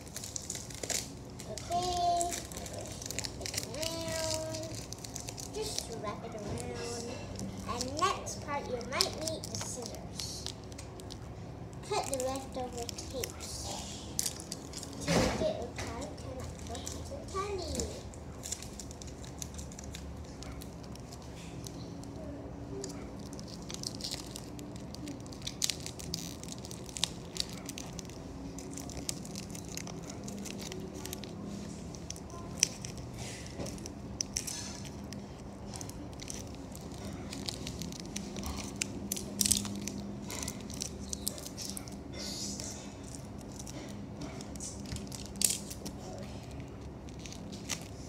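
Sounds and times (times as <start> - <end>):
plastic tape crinkling: 0.0 - 48.0.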